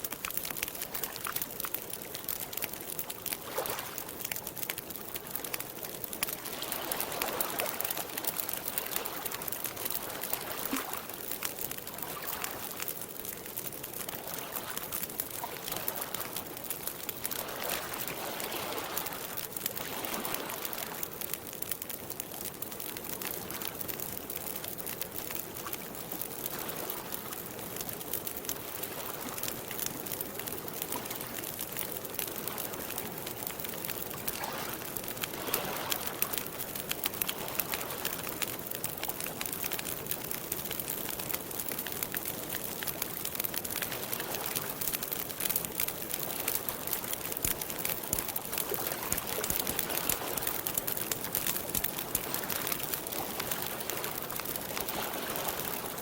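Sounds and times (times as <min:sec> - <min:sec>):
water lapping gently: 0:00.0 - 0:40.2, 0:42.9 - 0:56.0
campfire crackling: 0:00.0 - 0:56.0.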